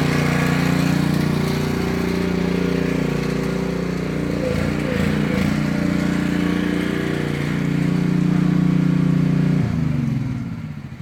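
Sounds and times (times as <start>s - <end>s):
motor machine winding down: 0.0s - 10.4s.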